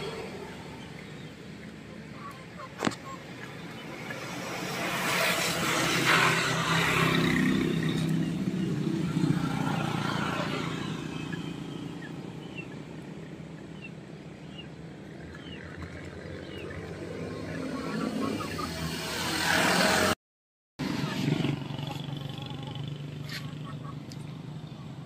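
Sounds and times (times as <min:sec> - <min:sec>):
motor vehicle passing: 0:00.0 - 0:20.2.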